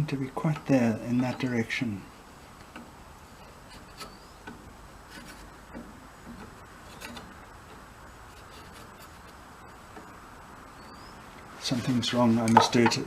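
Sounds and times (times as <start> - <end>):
low steady background hiss: 0.0 - 13.0.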